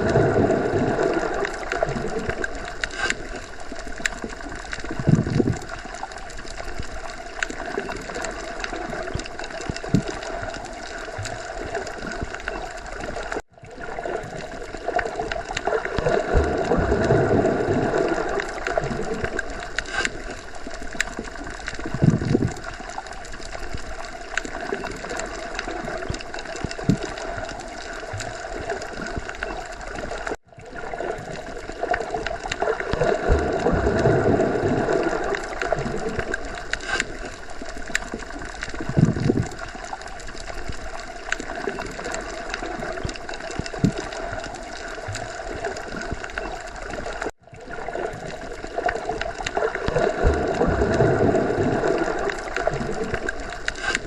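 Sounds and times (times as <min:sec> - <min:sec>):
low gurgling swells: 0:00.0 - 0:54.0
underwater water wash: 0:00.0 - 0:54.0.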